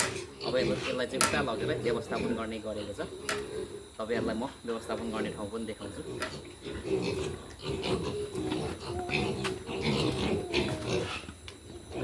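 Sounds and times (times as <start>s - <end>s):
pigs calling: 0.0s - 12.0s.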